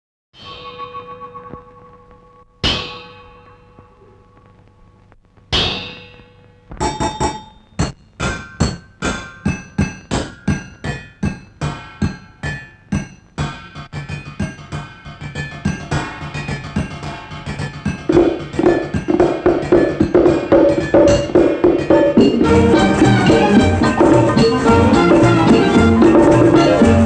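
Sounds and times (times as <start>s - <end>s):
metal pots struck as percussion: 2.6s - 4.2s, 5.5s - 27.0s.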